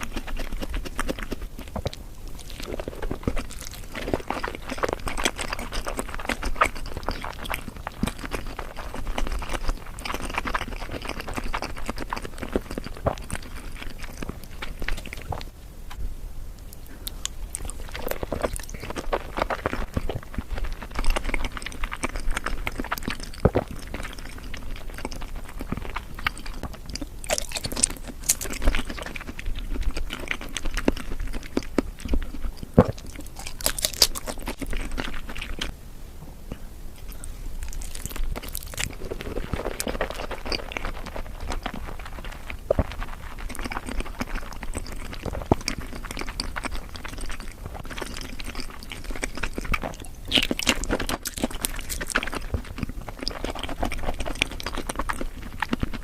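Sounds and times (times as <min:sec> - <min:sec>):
close chewing with mouth clicks: 0:00.0 - 0:15.6, 0:16.6 - 0:35.7, 0:37.0 - 0:56.0.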